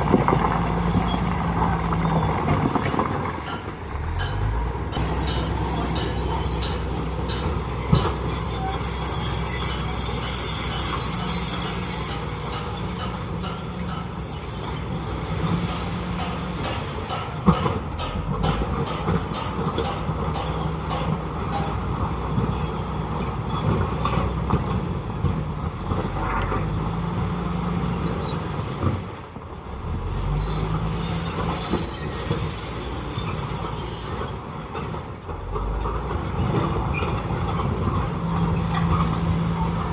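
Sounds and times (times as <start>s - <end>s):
diesel engine under load: 0.0s - 39.9s
steel tracks clanking and squealing: 0.0s - 39.9s.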